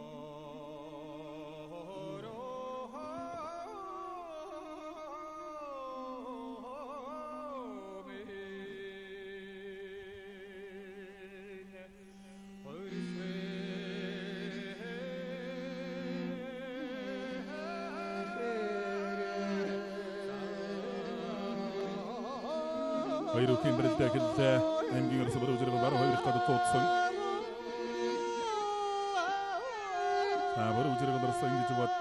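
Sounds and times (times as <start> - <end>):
person singing long held notes: 0.0 - 11.2, 12.6 - 32.0
bowed fiddle: 0.0 - 32.0.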